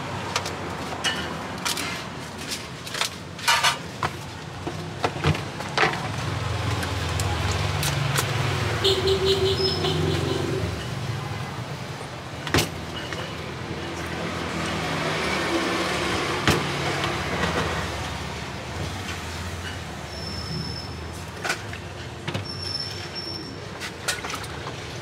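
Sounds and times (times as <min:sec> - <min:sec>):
vehicle engines humming past: 0:00.0 - 0:25.0.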